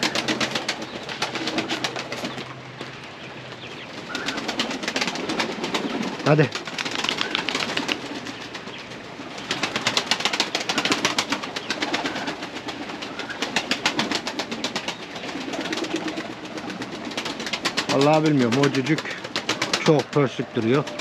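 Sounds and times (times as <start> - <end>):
pigeons cooing: 0.0 - 21.0
rapid irregular tapping: 4.1 - 21.0.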